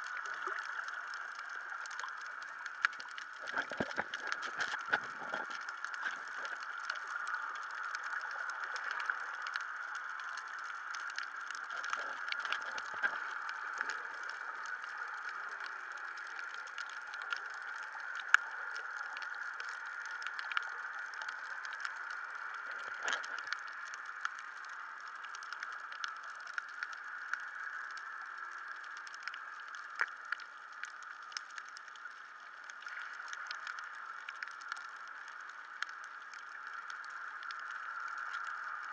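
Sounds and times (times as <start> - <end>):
crackle of small clicks: 0.0 - 38.9
steady hiss: 0.0 - 38.9.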